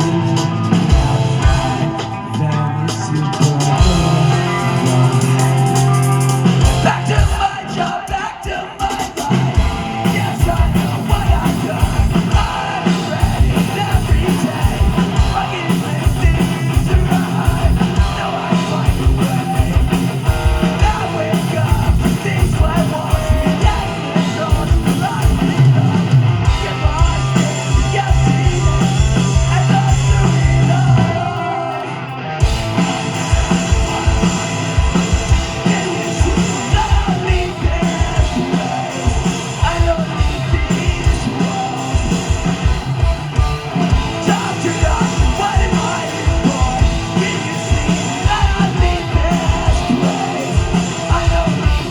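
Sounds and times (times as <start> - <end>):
live rock band playing: 0.0 - 51.9
sung vocals: 0.0 - 51.9.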